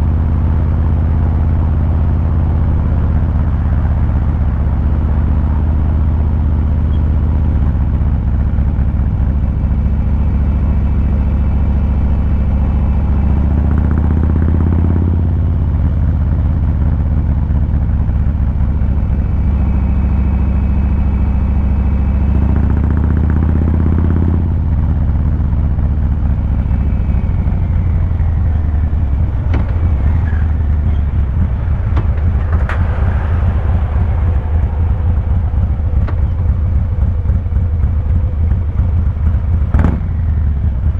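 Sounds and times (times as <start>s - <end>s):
motorcycle exhaust while riding: 0.0s - 40.9s.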